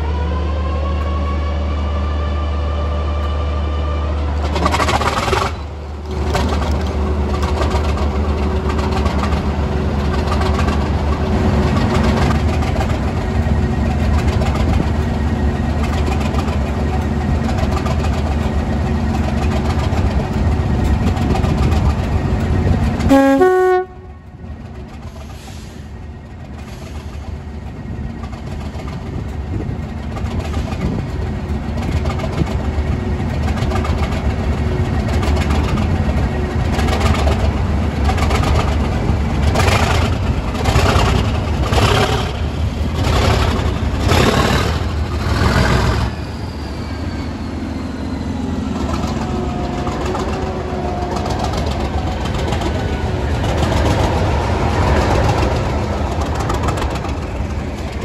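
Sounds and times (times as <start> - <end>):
diesel locomotive engine starting: 0.0 - 58.0.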